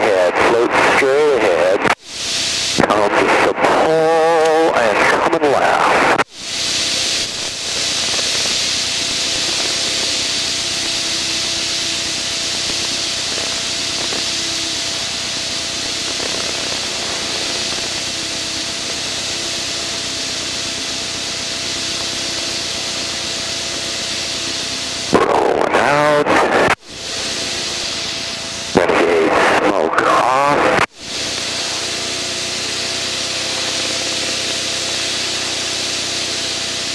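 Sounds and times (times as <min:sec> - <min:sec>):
aircraft engine and airflow rush: 0:00.0 - 0:36.9.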